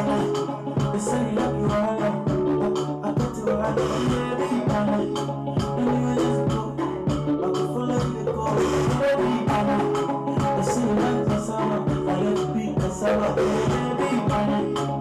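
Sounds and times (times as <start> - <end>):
loud music with drum beat: 0.0 - 15.0.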